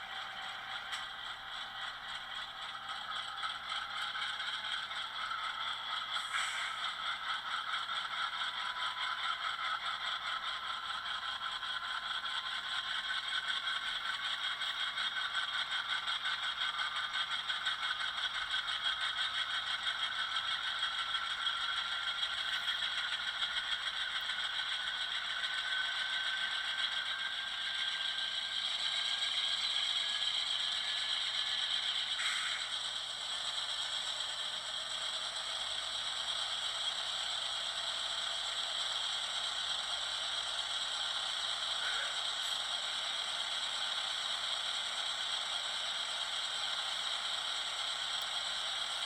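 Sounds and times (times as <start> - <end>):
model train diesel engine sound: 0.0 - 49.0.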